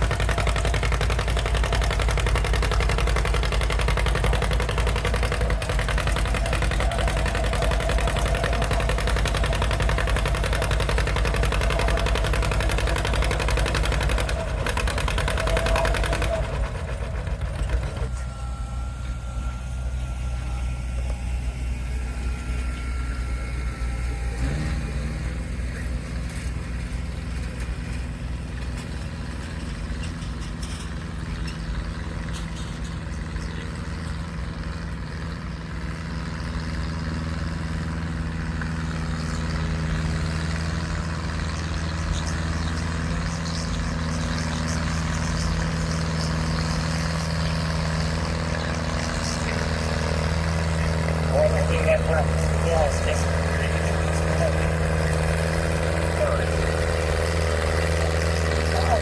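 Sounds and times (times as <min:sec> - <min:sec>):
tractor engine revving: 0:00.0 - 0:59.0.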